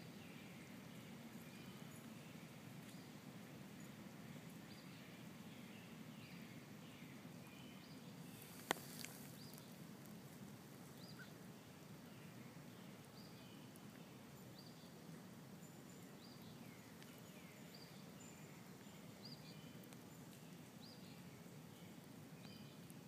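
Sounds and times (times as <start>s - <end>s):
faint low background noise: 0.0s - 23.0s.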